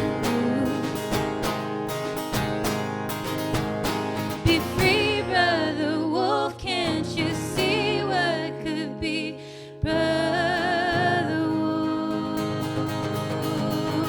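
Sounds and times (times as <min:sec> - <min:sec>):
women singing with vibrato: 0:00.0 - 0:01.6, 0:04.3 - 0:14.0
acoustic instruments: 0:00.0 - 0:14.0.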